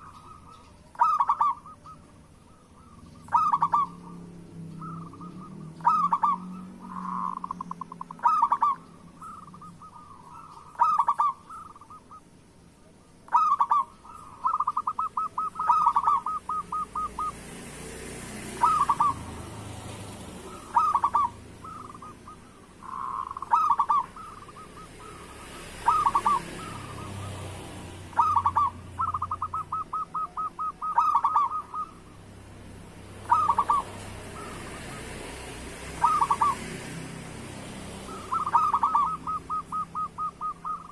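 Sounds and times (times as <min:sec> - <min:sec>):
dove cooing: 0:00.0 - 0:12.3, 0:13.2 - 0:32.3, 0:33.2 - 0:40.9.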